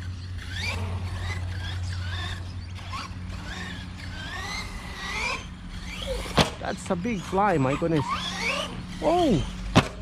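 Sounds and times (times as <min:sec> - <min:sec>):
rc truck motor whining: 0:00.0 - 0:10.0.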